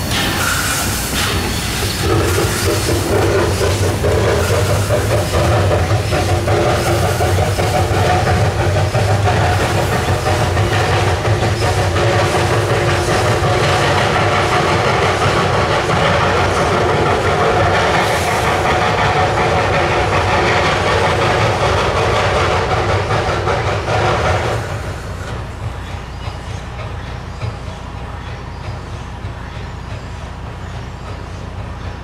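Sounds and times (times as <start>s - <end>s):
locomotive running: 0.0s - 32.0s.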